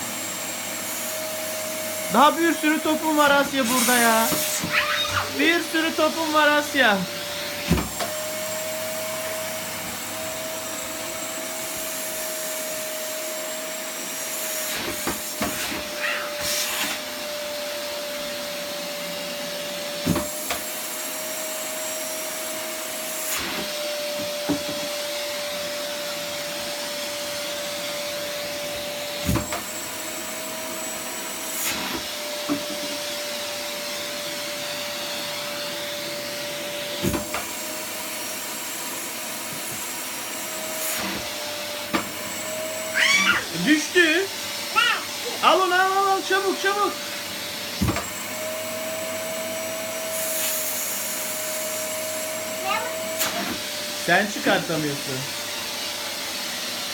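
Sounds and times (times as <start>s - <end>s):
vacuum cleaner whining: 0.0s - 56.9s.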